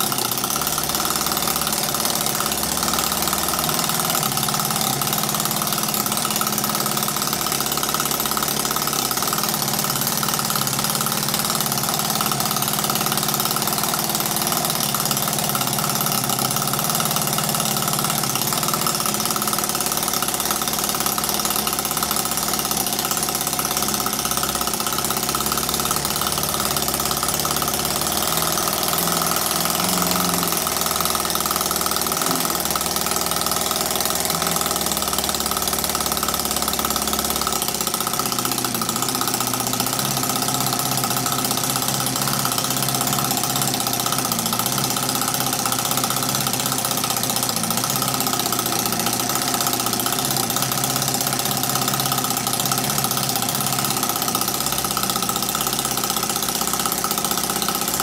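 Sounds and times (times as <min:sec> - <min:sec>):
model engine running steadily: 0:00.0 - 0:58.0.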